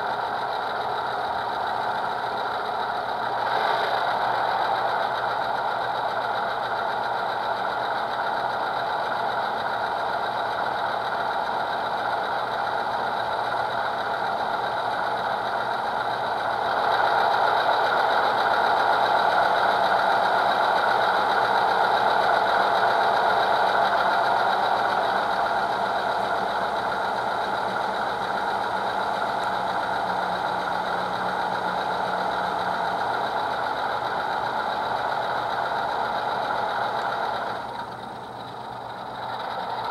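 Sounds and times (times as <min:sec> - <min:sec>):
diesel engine sound through speakers: 0:00.0 - 0:39.9.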